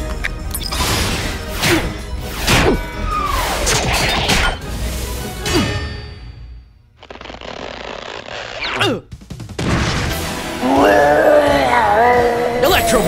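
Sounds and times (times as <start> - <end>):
background music: 0.0 - 7.0, 8.6 - 13.0.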